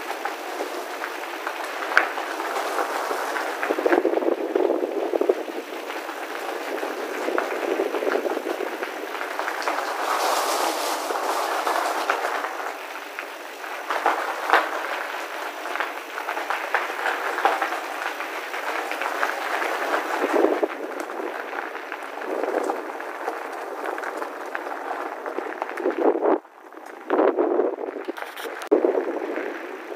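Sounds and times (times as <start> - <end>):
bicycle tyres on gravel: 0.0 - 29.9.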